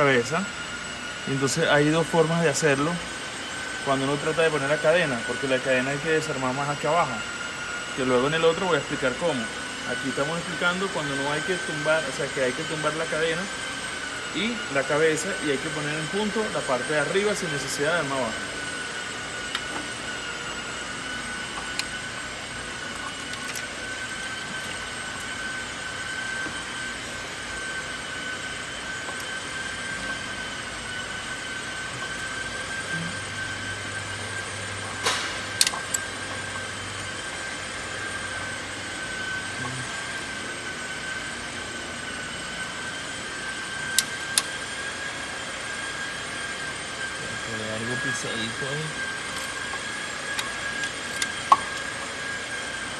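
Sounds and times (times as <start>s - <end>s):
machine whining: 0.0s - 52.9s.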